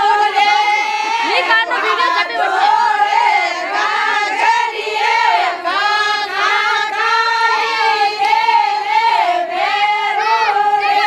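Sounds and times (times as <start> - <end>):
women singing folk song together: 0.0 - 11.0.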